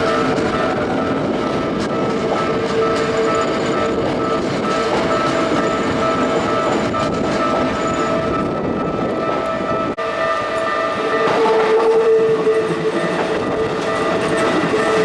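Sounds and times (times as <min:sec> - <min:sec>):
crossing warning bell ringing: 0:00.0 - 0:15.0
train wheels clattering on rails: 0:00.0 - 0:15.0.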